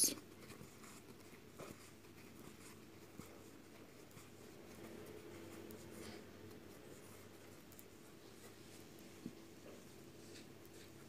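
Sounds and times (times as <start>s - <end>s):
crochet hook scratching yarn: 0.0s - 9.1s.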